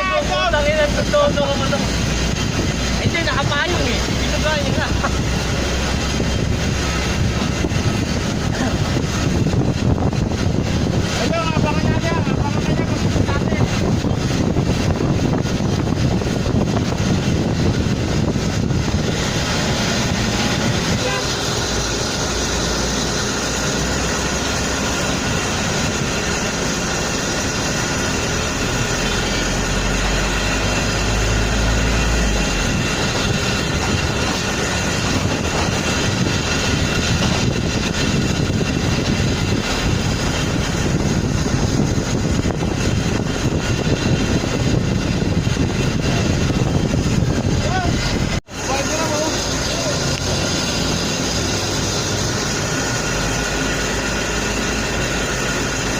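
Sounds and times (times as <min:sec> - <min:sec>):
vehicle engines and machinery drone: 0:00.0 - 0:55.9.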